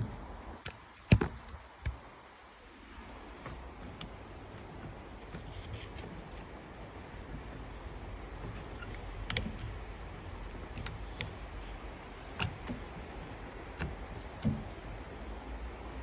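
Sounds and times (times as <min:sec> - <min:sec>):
small clicks and knocks of parts: 0:00.0 - 0:15.5.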